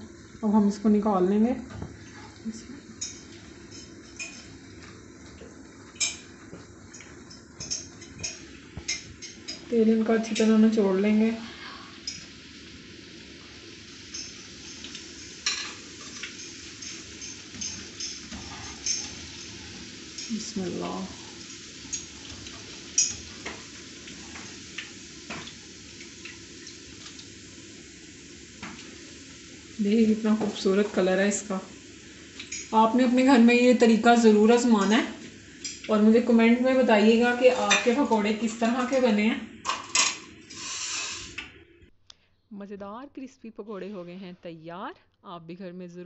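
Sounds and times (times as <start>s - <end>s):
deep-frying sizzle: 0.0s - 41.7s.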